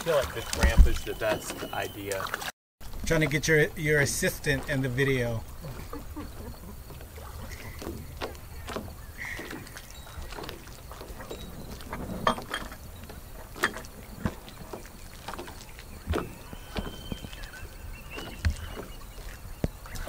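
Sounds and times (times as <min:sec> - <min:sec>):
water sloshing and splashing: 0:00.0 - 0:20.0.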